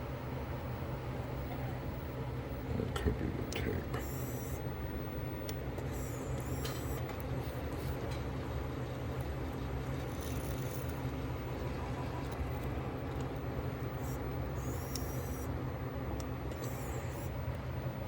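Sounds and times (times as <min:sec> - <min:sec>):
tape playback hum with hiss: 0:00.0 - 0:18.0.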